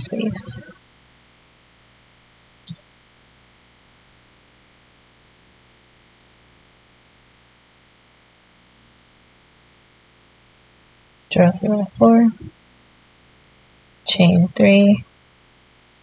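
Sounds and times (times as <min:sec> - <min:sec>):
faint room tone hiss: 0:00.0 - 0:16.0.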